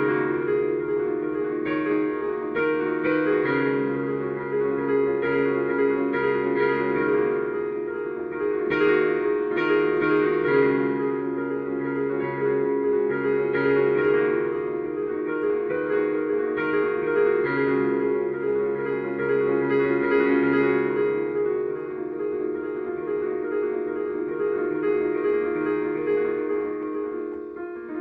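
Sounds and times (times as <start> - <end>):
solo piano slow chords: 0.0 - 28.0.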